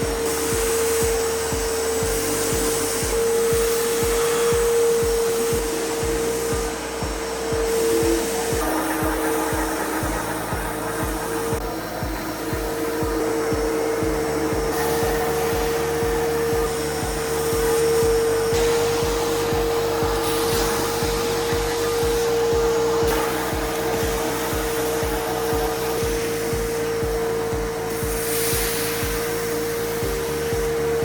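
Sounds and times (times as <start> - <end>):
background music with beat: 0.0 - 31.0
floor grinder whining: 0.0 - 31.0.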